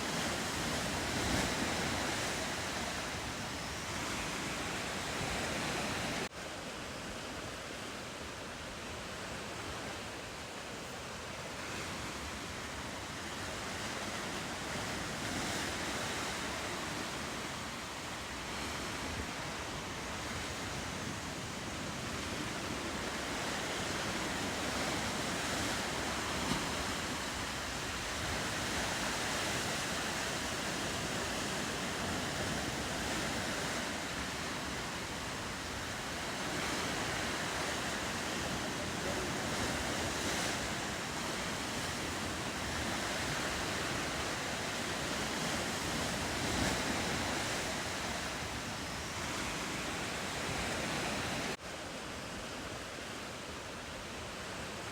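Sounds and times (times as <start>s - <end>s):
ocean surf: 0.0s - 54.9s
wind: 0.0s - 54.9s.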